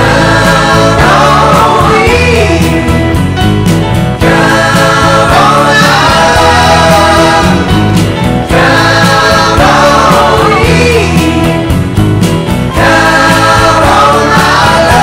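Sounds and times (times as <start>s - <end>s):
choir singing with accompaniment: 0.0s - 15.0s.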